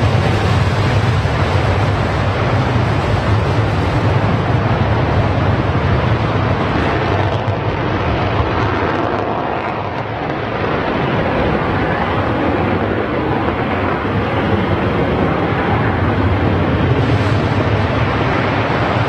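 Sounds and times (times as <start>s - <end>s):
jet engines in afterburner: 0.0s - 19.0s.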